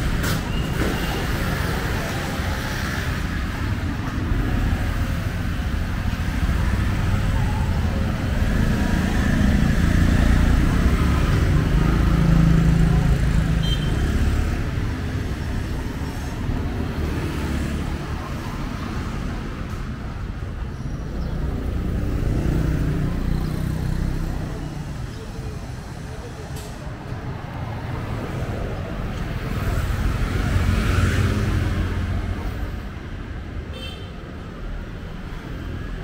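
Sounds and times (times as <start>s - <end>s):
vehicle engines rumbling: 0.0s - 36.0s.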